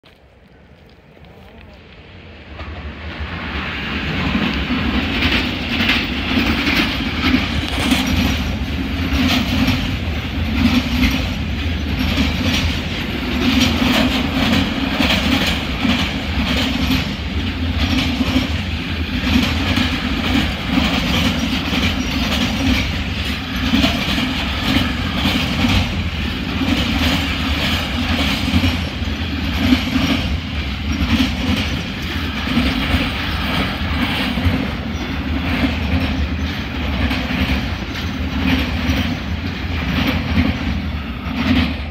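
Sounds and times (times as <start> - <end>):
freight train passing: 0.0 - 41.9
wheels clicking over rail joints: 4.1 - 41.9.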